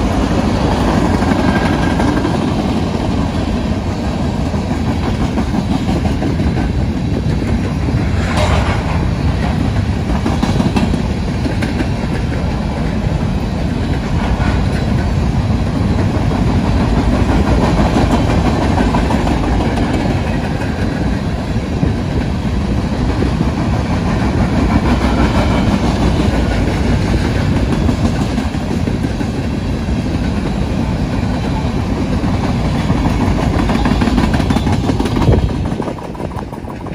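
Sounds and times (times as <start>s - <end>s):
steel wheels running on rails: 0.0s - 36.9s.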